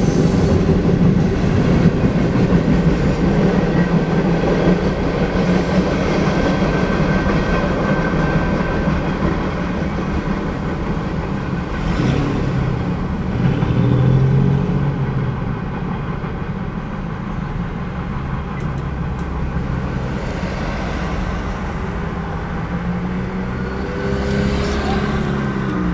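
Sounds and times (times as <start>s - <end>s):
cars driving across tracks: 0.0s - 25.9s
freight train rumbling: 0.0s - 25.9s.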